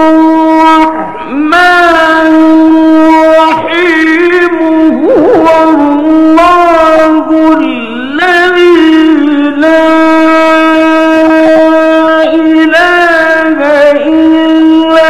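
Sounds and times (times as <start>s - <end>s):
man chanting a recitation: 0.0s - 15.0s.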